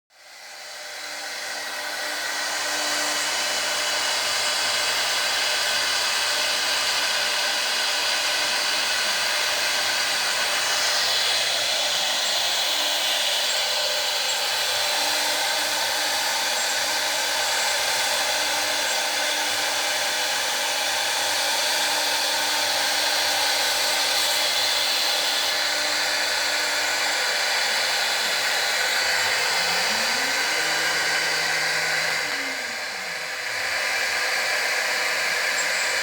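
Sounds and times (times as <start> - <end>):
low machine hum: 0.2 - 36.0
router spindle cutting plastic hiss: 0.2 - 36.0.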